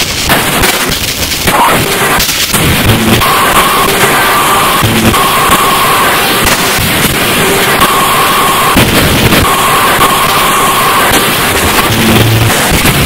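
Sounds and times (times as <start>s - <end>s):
crackling static noise: 0.0s - 13.0s
low hum: 0.0s - 13.0s.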